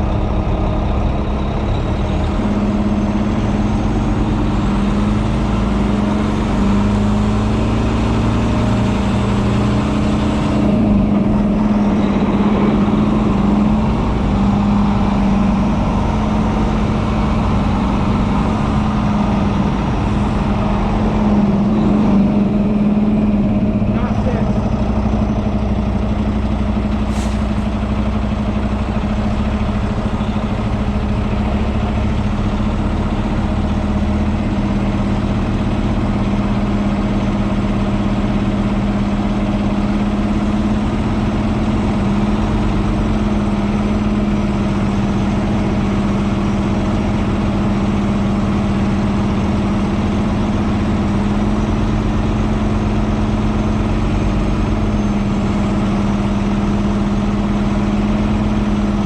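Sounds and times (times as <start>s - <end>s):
truck engine droning: 0.0s - 59.0s.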